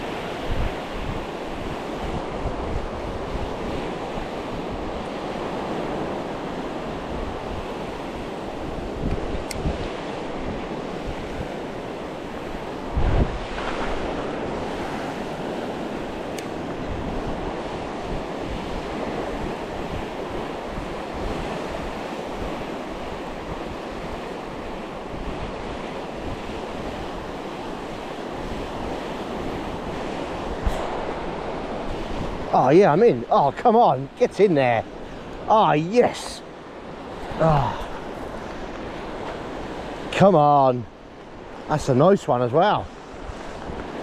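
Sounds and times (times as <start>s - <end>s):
sea waves washing ashore: 0.0s - 44.0s
wind buffeting microphone: 0.0s - 44.0s.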